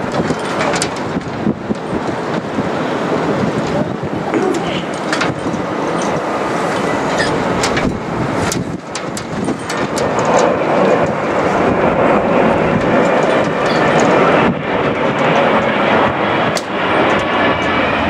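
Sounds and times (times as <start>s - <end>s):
jet airliner engine rush: 0.0s - 18.0s.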